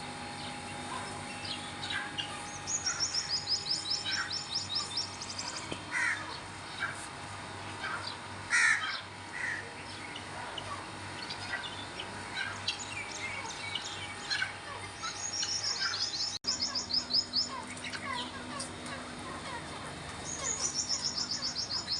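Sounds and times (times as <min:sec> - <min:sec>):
many birds chirping and calling: 0:00.3 - 0:21.9.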